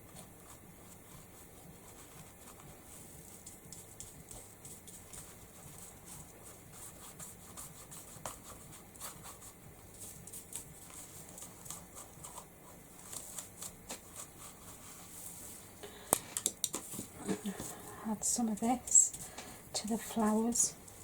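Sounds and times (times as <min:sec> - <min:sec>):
paint dabbing and rubbing: 0:00.0 - 0:15.8, 0:16.8 - 0:21.0.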